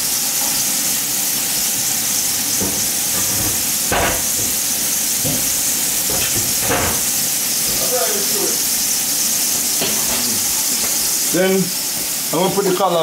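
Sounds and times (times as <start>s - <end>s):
fish and vegetables sizzling: 0.0s - 13.0s.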